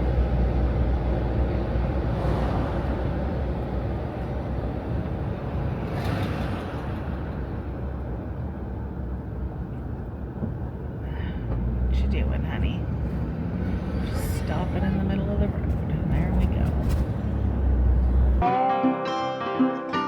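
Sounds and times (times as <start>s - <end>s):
vehicle engine rumble: 0.0s - 18.4s.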